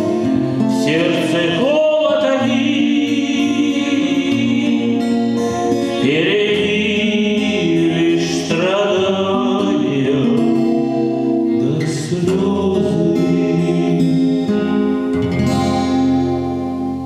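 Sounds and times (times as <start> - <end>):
person singing: 0.0 - 16.0
sustained accompaniment: 0.0 - 17.0.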